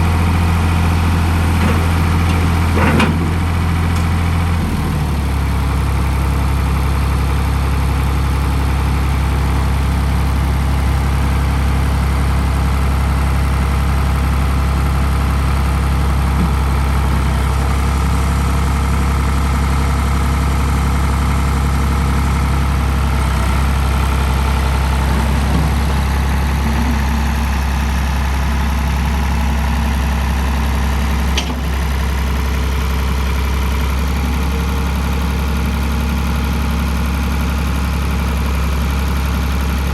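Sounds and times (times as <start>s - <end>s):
backhoe engine idling: 0.0s - 39.9s.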